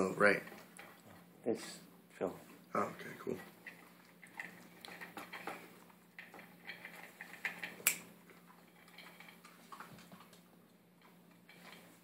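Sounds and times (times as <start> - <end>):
puppy eating from a bowl: 0.0 - 12.0.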